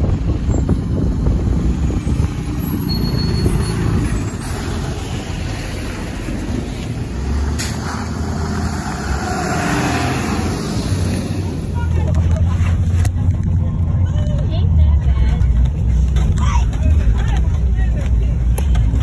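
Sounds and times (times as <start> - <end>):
bus diesel engines rumbling: 0.0 - 19.0.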